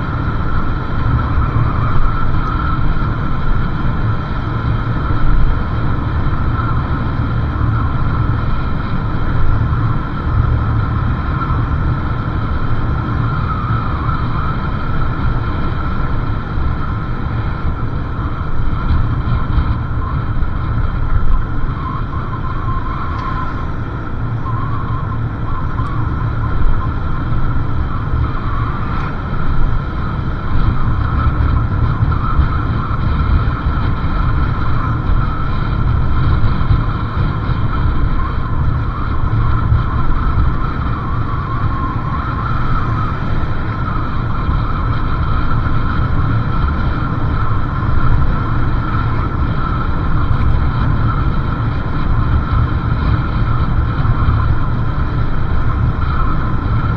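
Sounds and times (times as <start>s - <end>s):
motorcycle running: 0.0s - 56.9s
wind on microphone: 0.0s - 56.9s.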